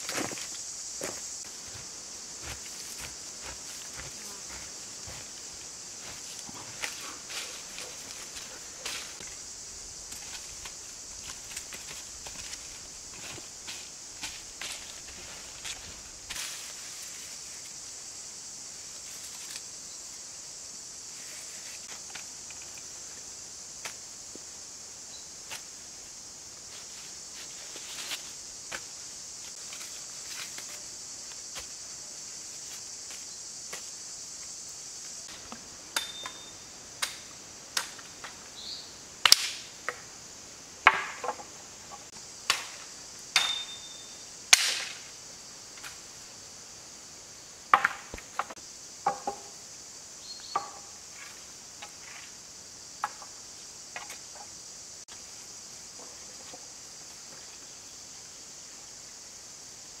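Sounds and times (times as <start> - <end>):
insects hissing: 0.0 - 60.0.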